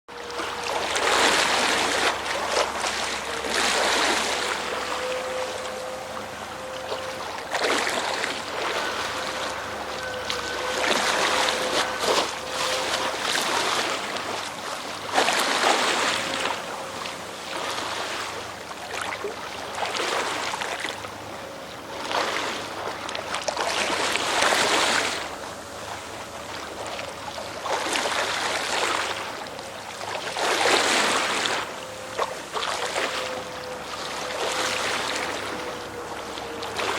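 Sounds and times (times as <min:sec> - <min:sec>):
boat machinery hum: 0:00.1 - 0:36.9
sea water splashing: 0:00.1 - 0:36.9.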